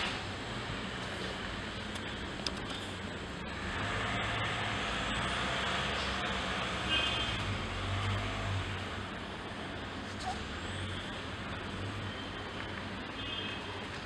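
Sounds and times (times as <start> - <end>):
distant road traffic: 0.0 - 14.0.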